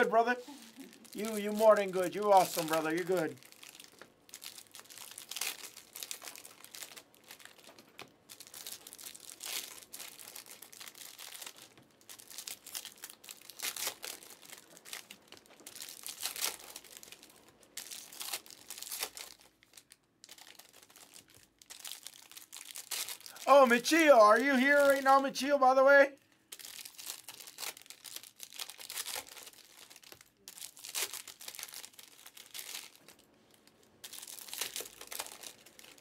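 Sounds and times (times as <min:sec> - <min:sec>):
cards rustling: 0:00.0 - 0:19.5, 0:20.3 - 0:25.6, 0:26.6 - 0:36.0
foil packs crinkling: 0:00.0 - 0:25.3, 0:26.2 - 0:36.0.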